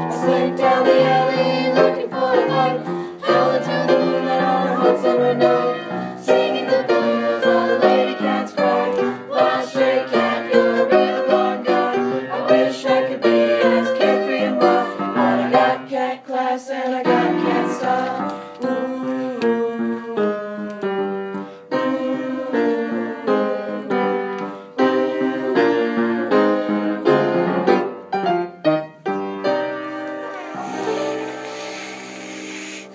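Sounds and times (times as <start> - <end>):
piano accompaniment: 0.0 - 16.0, 17.0 - 32.9
choir singing: 0.0 - 28.1, 29.9 - 32.9.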